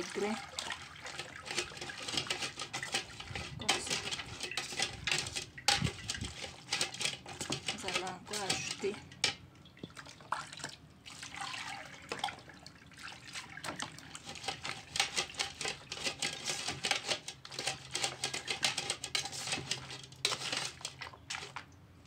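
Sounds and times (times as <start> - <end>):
water pouring and splashing: 0.0 - 21.8.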